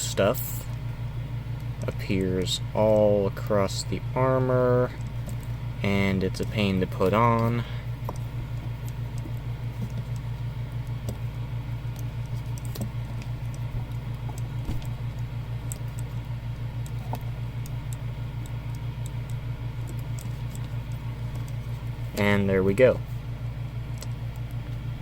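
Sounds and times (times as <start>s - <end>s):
low pulsing hum: 0.0s - 25.0s.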